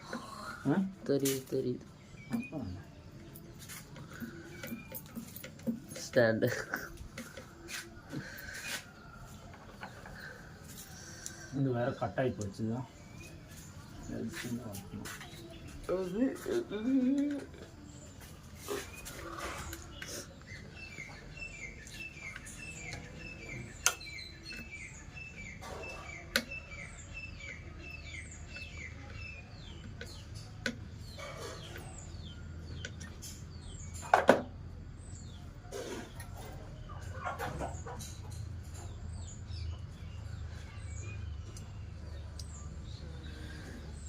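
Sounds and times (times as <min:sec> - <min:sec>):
bird chirping: 0:00.0 - 0:44.0.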